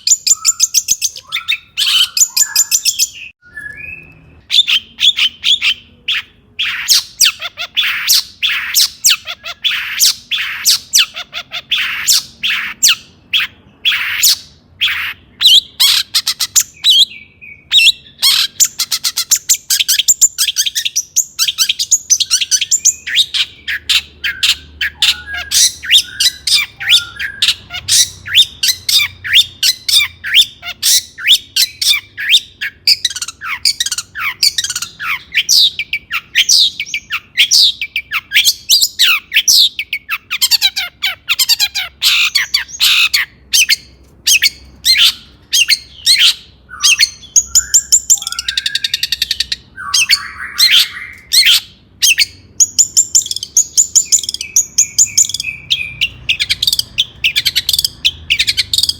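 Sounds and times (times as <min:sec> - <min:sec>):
bird singing harsh scratchy notes: 0:00.0 - 0:58.9.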